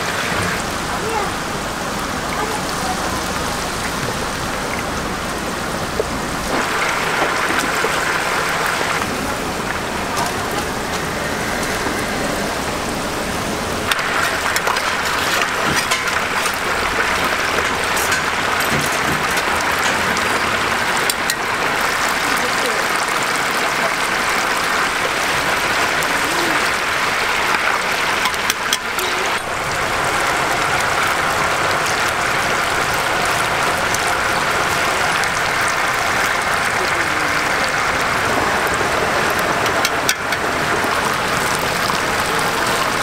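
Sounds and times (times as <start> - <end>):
oil sizzling and crackling: 0.0 - 43.0.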